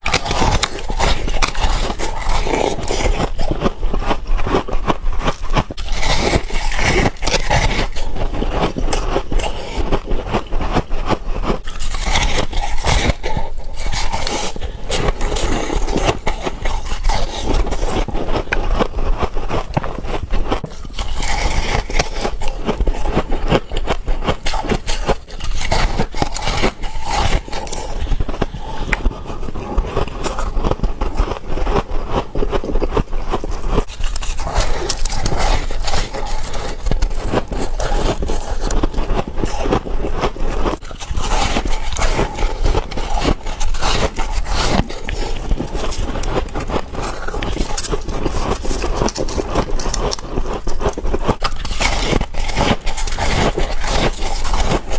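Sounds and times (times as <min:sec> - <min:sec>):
biting and crunching frost: 0:00.0 - 0:54.9.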